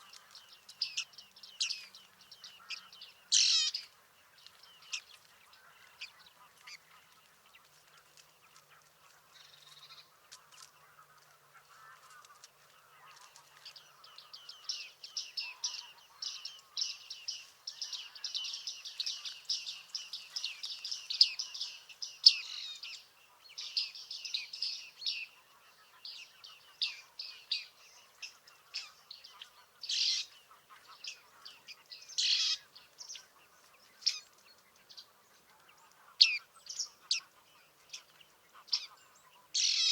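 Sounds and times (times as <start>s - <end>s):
bearded tits calling: 0.0s - 7.6s, 12.8s - 39.9s.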